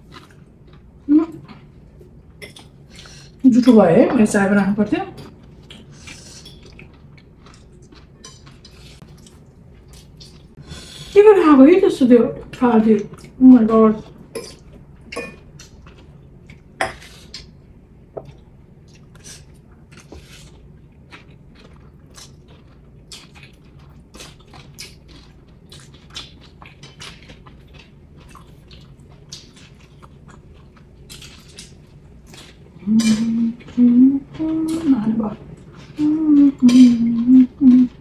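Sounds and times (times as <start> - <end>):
people chewing food: 0.0 - 3.8, 5.1 - 11.2, 12.4 - 38.0.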